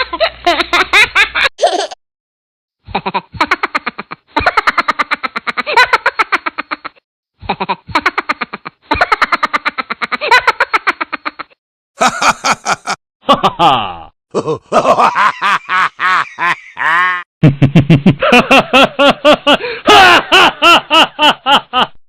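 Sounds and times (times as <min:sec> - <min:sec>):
rhythmic human laughter: 0:02.9 - 0:13.8, 0:14.4 - 0:22.0.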